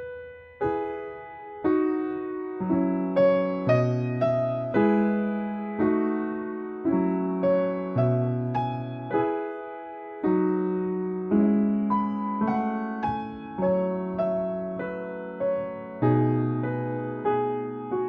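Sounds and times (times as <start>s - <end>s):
piano playing gentle chords: 0.0s - 18.0s.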